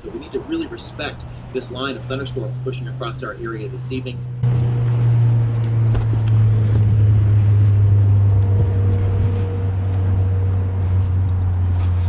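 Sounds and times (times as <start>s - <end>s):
low rumble: 2.0s - 12.0s.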